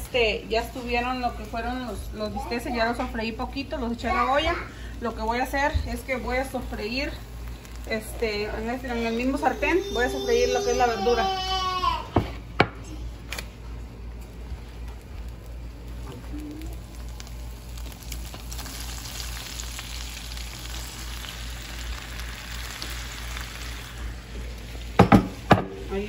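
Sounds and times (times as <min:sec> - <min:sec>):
vegetables sizzling in skillet: 0:00.0 - 0:12.4, 0:13.3 - 0:26.0.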